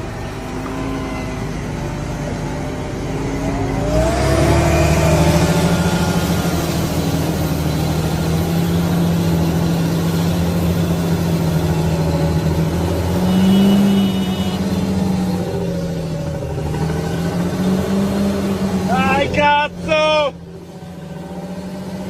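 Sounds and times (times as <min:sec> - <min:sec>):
tractor diesel engines droning: 0:00.0 - 0:22.0.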